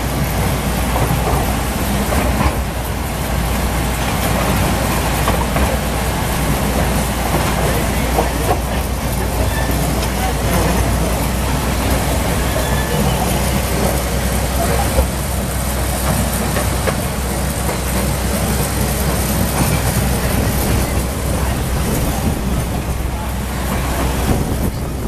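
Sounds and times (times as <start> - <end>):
miniature train rumbling: 0.0 - 25.0.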